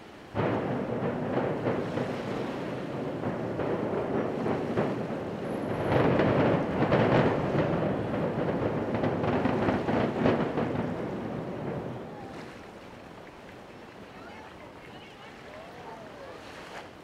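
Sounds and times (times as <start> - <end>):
deep rumble of building collapse: 0.3 - 16.1.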